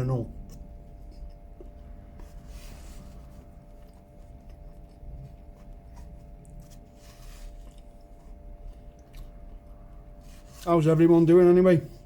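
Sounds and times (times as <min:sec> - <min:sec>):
steady low hum: 0:00.0 - 0:12.0
man chewing crispy food: 0:00.2 - 0:10.7.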